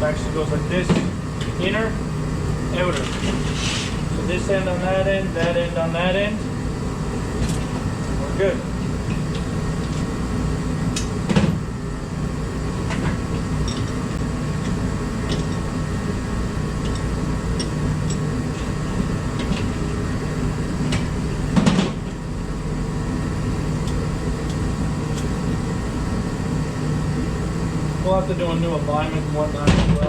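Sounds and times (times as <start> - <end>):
steady background hum: 0.0 - 30.0.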